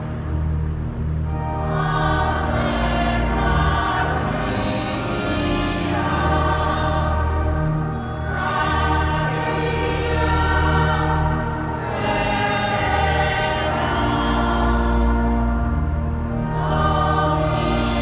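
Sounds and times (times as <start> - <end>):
held low notes: 0.0 - 18.0
choir singing: 1.4 - 18.0.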